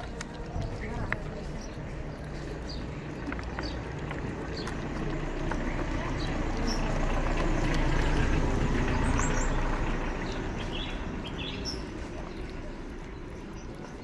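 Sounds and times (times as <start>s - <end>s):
motor vehicle passing: 0.0s - 14.0s
small birds chirping: 0.0s - 14.0s.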